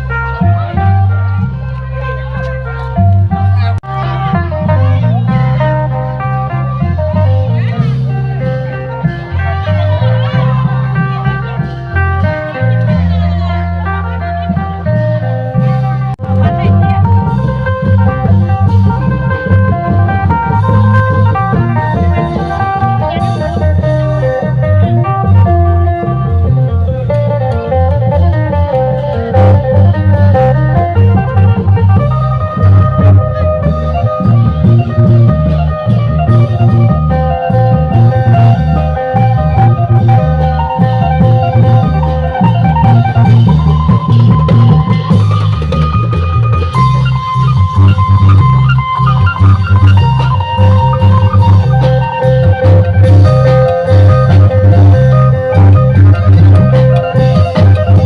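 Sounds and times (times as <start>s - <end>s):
deep long drum beats: 0.0s - 58.0s
driving bass line: 0.0s - 58.0s.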